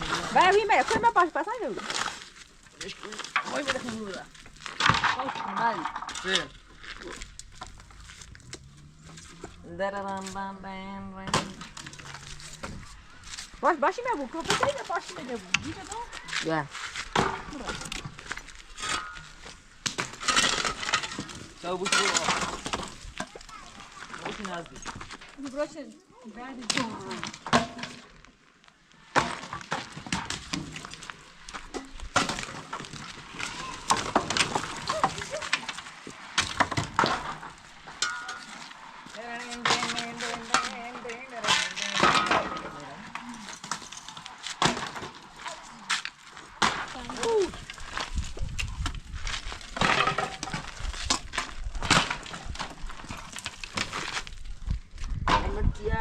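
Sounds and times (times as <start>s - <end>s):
demolition knocks and clatter: 0.0s - 10.4s, 11.2s - 25.7s, 29.2s - 56.0s
debris crunching and breaking: 0.0s - 55.6s.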